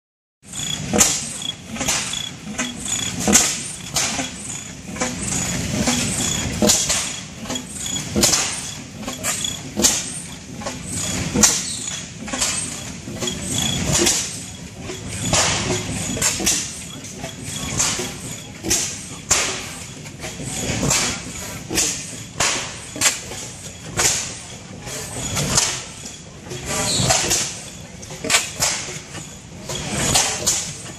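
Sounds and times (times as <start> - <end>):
stationary gas engine firing: 0.5 - 30.9.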